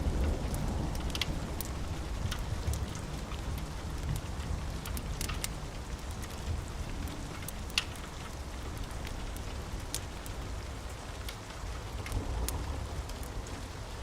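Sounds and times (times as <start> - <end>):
steady rain falling: 0.0 - 14.0
wood fire crackling: 0.0 - 14.0.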